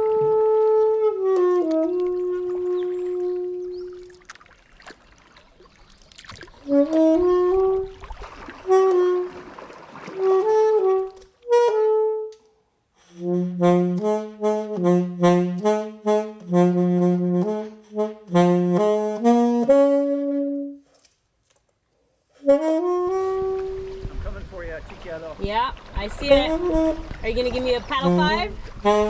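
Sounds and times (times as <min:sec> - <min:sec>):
wind instrument slow melody: 0:00.0 - 0:04.3, 0:06.6 - 0:20.9, 0:22.3 - 0:24.2, 0:26.2 - 0:29.0.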